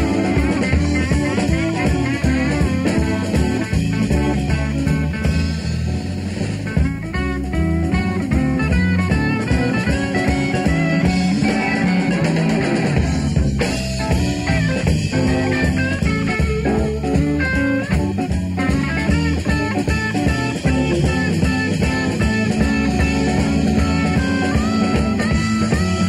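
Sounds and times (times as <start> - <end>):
blues-rock band playing: 0.0 - 26.0
electric lead guitar: 0.0 - 26.0.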